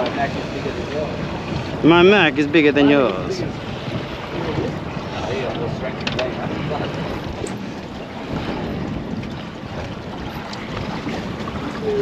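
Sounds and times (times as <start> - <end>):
water rushing past boat: 0.0 - 12.0
wind buffeting microphone: 0.0 - 12.0.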